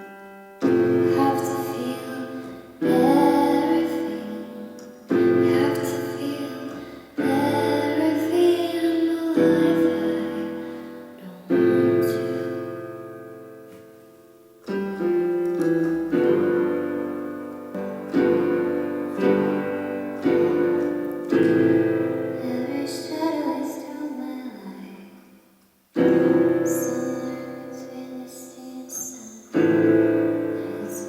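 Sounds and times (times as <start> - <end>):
slow piano chords: 0.0 - 25.0, 26.0 - 31.0.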